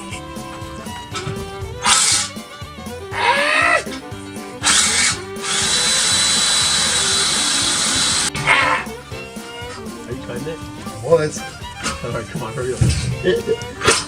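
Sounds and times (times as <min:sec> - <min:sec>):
power saw cutting metal pipe: 0:00.4 - 0:02.6, 0:03.9 - 0:14.0.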